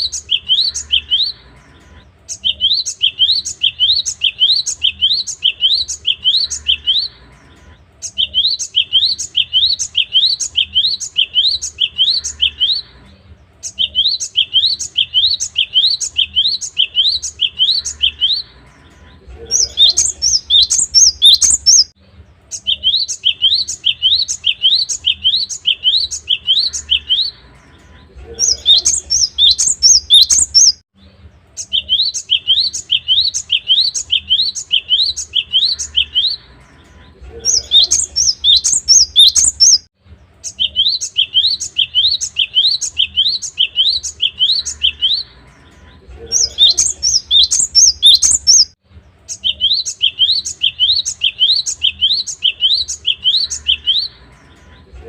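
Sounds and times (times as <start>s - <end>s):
bird singing high rising notes: 0.0s - 30.9s, 31.6s - 54.9s.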